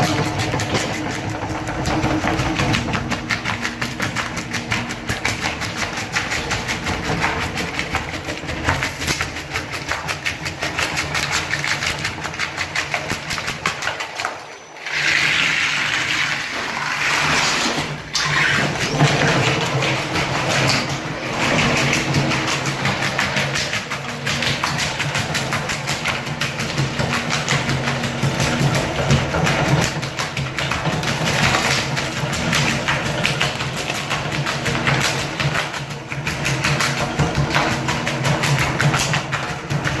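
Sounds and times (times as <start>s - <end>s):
floor scraper machine chattering: 0.0s - 40.0s.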